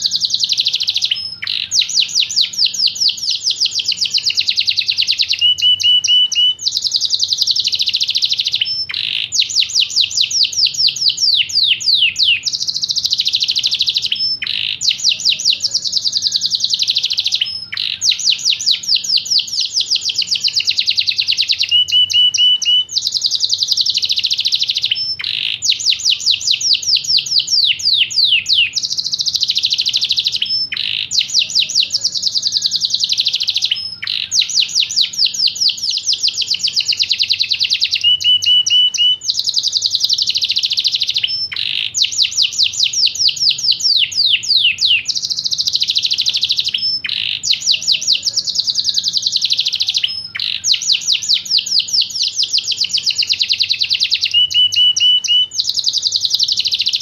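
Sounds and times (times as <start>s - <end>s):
canary singing high trills: 0.0s - 57.0s.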